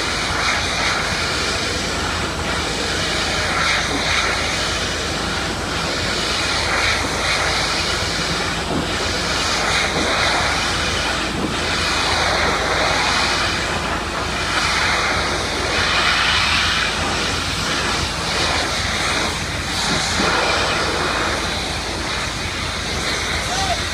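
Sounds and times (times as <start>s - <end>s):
pressure washer spray hissing: 0.0s - 23.9s
steady low drone: 0.0s - 23.9s.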